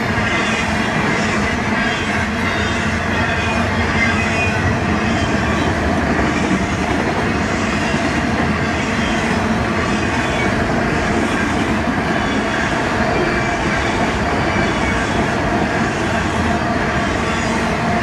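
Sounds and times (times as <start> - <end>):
train wheels rolling on rail: 0.0 - 18.0.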